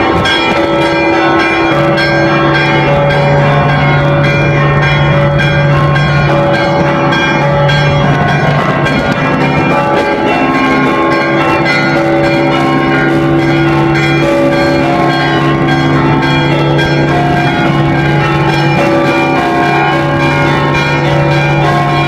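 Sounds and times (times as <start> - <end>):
church bells ringing: 0.0 - 22.0
deep low bell tone: 0.0 - 22.0.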